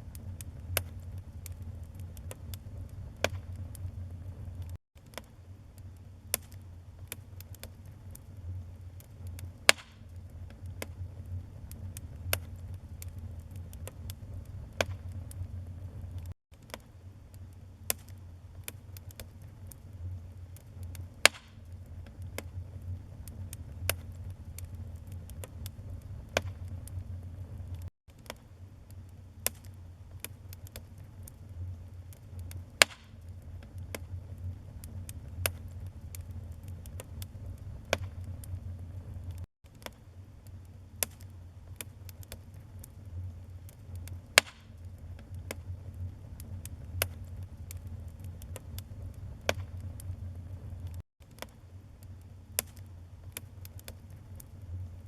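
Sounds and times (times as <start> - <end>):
sharp pops from burning logs: 0.0 - 54.6
rumble of flames: 0.0 - 55.0
wood fire crackling: 0.0 - 55.0.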